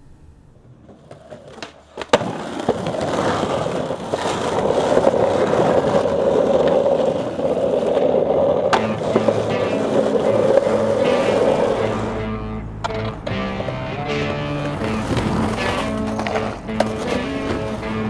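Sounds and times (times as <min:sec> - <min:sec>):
skateboard wheels rolling on asphalt: 0:00.5 - 0:18.0
skateboard clack: 0:00.6 - 0:18.0.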